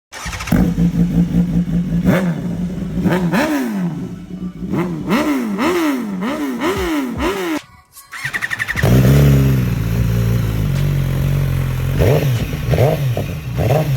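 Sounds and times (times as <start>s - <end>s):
motorcycle engine idling and revving: 0.1s - 13.9s.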